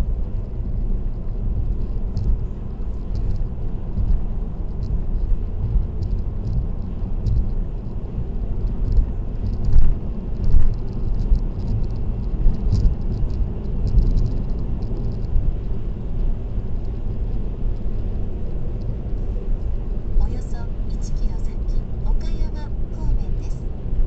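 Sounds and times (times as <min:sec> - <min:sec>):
road and tyre rumble: 0:00.0 - 0:24.0.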